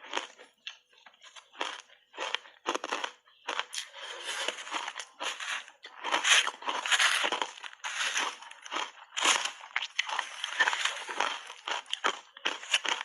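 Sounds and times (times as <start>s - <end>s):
crunching ice being chewed: 0.0s - 13.0s.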